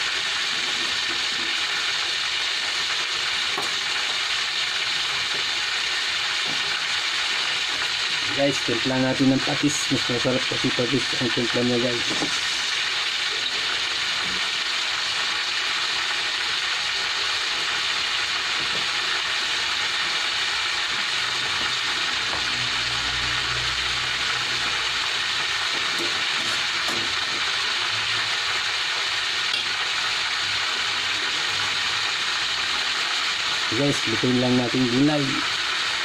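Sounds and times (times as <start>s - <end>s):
food sizzling in pans: 0.0s - 36.0s.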